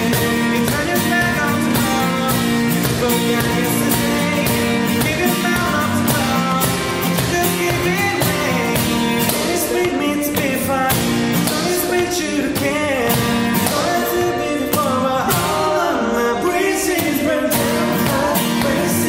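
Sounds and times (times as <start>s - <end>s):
acoustic guitars strumming: 0.0s - 19.0s
men singing in harmony: 0.0s - 19.0s.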